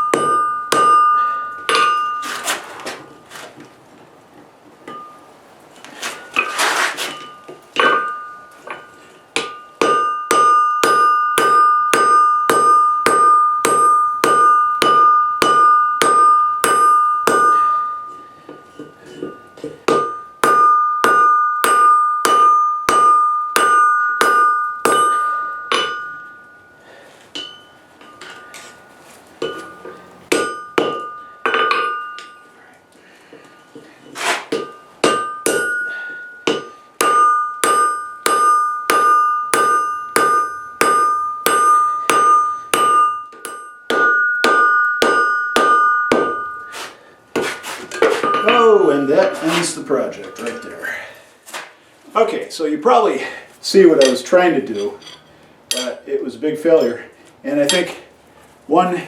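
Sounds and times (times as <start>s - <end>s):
hammer striking steel on anvil: 0.0s - 2.5s, 4.9s - 5.2s, 7.1s - 28.8s, 29.4s - 32.6s, 33.3s - 50.8s, 54.0s - 56.0s
anvil ringing: 0.0s - 2.6s, 4.9s - 5.3s, 6.1s - 33.8s, 34.5s - 47.2s, 47.9s - 51.2s, 53.2s - 56.0s.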